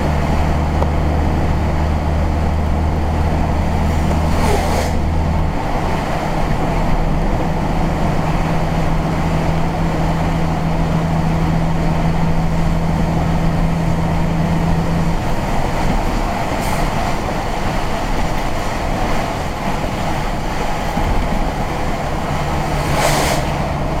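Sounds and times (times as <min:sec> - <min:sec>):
car engine hum: 0:00.0 - 0:24.0
road and tyre noise: 0:00.0 - 0:24.0.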